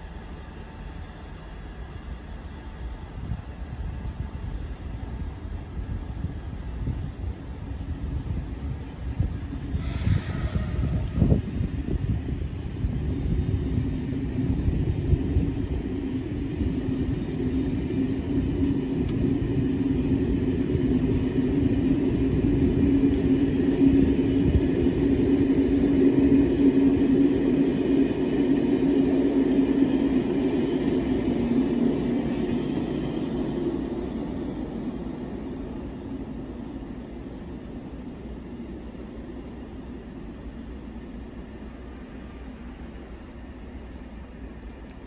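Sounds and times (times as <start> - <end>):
distant train rail rumble: 0.0 - 45.0.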